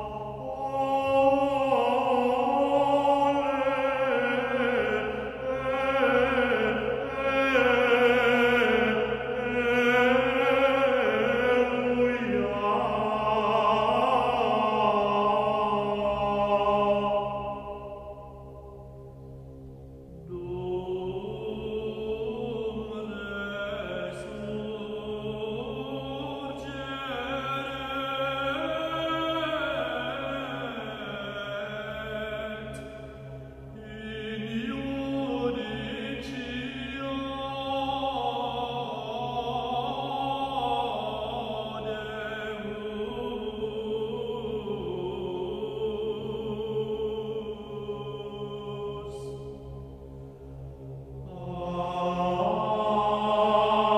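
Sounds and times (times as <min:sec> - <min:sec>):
slow sung devotional chant: 0:00.0 - 0:53.9
steady low drone: 0:00.0 - 0:53.9.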